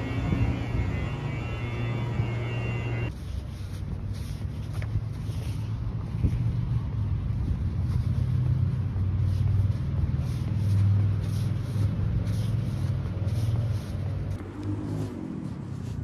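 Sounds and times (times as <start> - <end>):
road traffic rumble: 0.0 - 16.0
footsteps on paving: 3.1 - 16.0.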